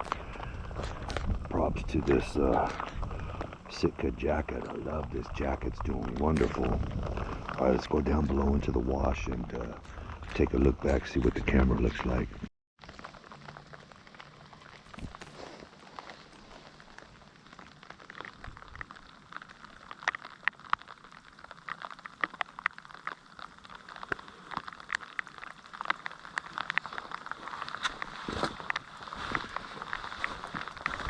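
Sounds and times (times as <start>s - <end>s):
rain pattering: 0.0s - 31.0s.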